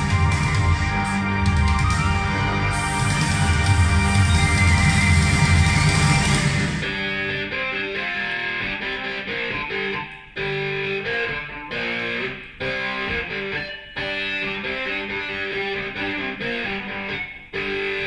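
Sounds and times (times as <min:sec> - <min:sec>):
electric guitar music over speakers: 0:00.0 - 0:18.0.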